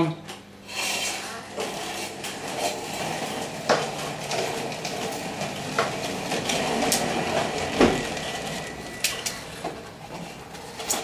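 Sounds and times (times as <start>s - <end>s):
plastic wheels rolling on tiles: 0.7s - 11.0s.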